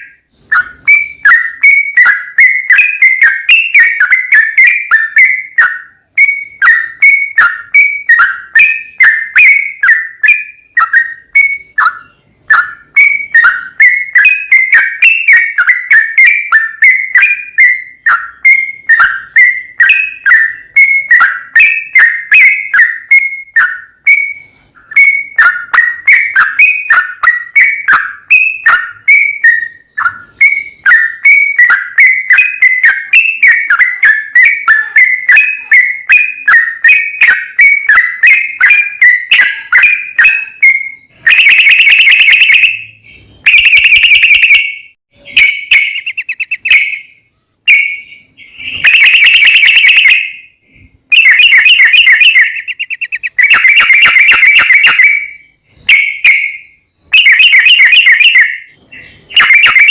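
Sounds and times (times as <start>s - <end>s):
bulbul singing whistled notes: 0.0s - 59.9s
rapid bird trills: 0.0s - 59.9s.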